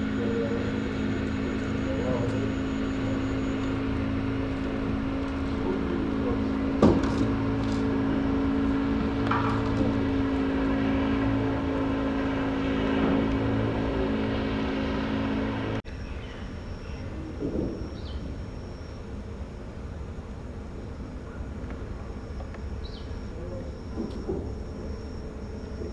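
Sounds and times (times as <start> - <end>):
engine running: 0.0 - 25.9.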